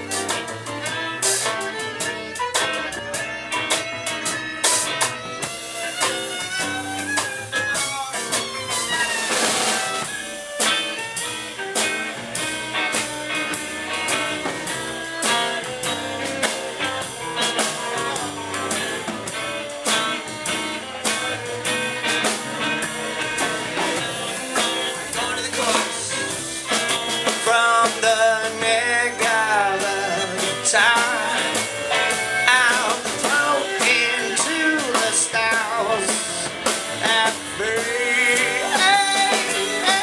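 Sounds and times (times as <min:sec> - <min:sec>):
bass and drum kit beat: 0:00.0 - 0:40.0
guitar solo: 0:00.0 - 0:40.0.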